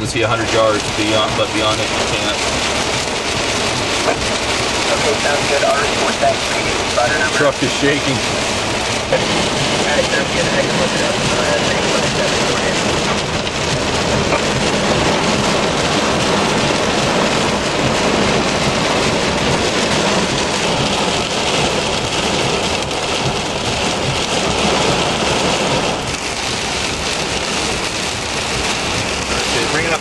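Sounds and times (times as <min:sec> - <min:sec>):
heavy rain hissing on truck: 0:00.0 - 0:30.0
wind gusts shaking vehicle: 0:00.0 - 0:30.0.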